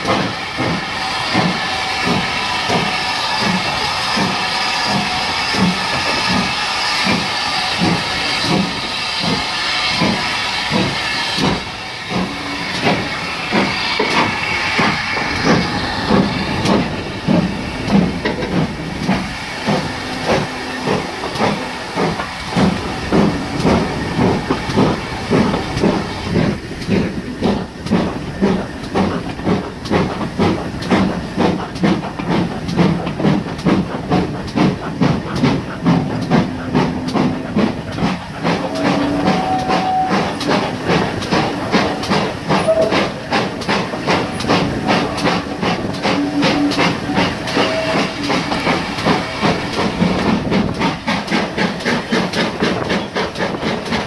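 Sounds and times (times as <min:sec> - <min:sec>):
steady steam hiss: 0:00.0 - 0:54.0
steam locomotive exhaust beats: 0:00.0 - 0:54.0.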